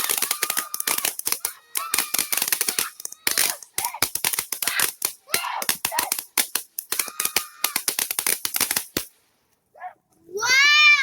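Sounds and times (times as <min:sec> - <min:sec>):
fireworks crackling: 0:00.0 - 0:09.2.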